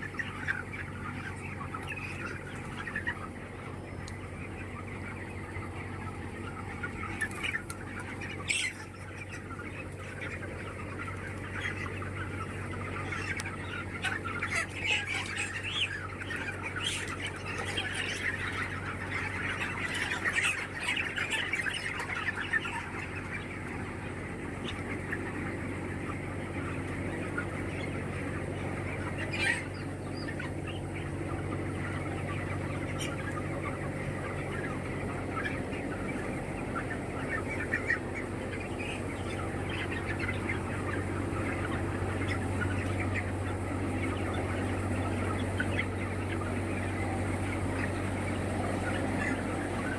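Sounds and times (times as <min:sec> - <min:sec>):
chickens clucking and squawking: 0:00.0 - 0:49.9.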